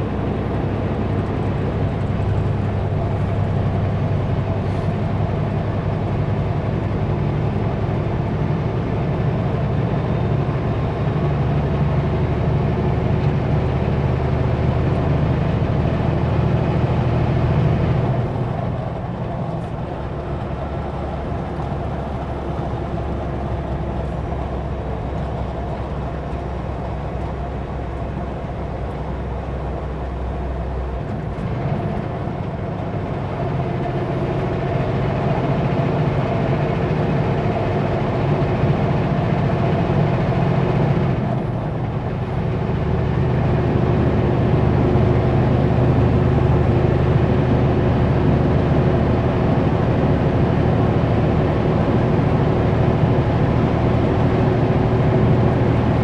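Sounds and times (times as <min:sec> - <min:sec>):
road noise: 0:00.0 - 0:56.0
truck diesel engine running: 0:00.0 - 0:56.0.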